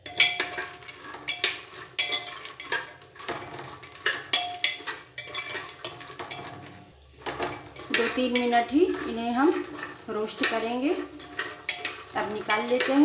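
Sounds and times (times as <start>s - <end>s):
spoon scraping and clinking on pot: 0.0s - 13.0s.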